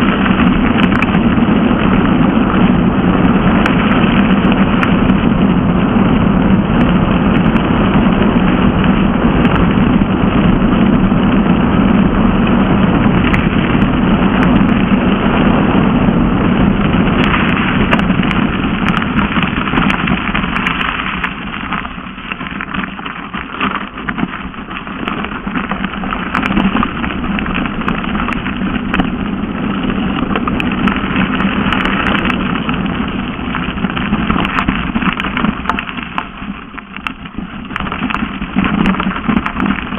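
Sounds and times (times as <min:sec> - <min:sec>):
bike rattling: 0:00.0 - 0:39.9
bike tyres rolling over gravel: 0:00.0 - 0:39.9
wind on microphone: 0:00.0 - 0:39.9.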